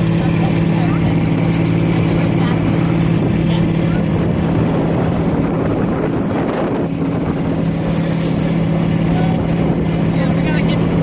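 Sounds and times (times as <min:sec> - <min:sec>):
ship engine droning: 0:00.0 - 0:11.0
wind buffeting microphone: 0:00.0 - 0:11.0.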